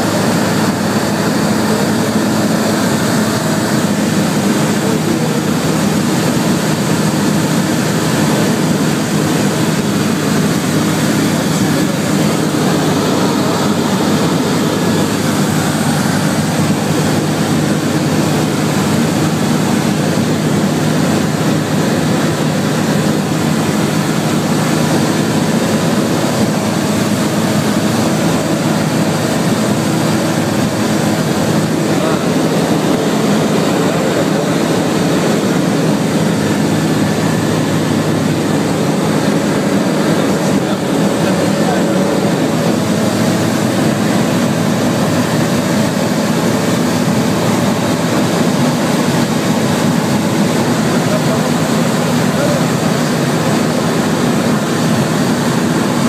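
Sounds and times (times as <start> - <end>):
light aircraft engine in flight: 0.0 - 56.0.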